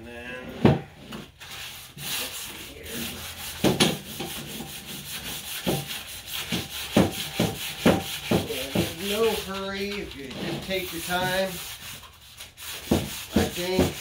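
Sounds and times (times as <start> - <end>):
hand sanding painted steel: 1.4 - 14.0.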